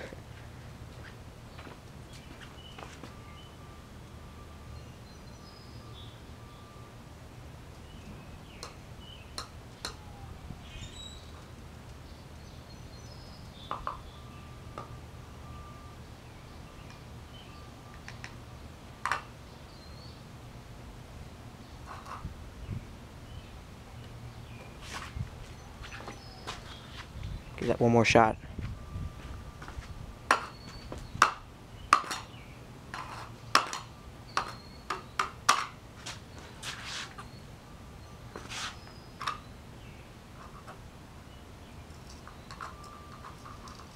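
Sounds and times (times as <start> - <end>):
low outdoor hum: 0.0 - 43.9.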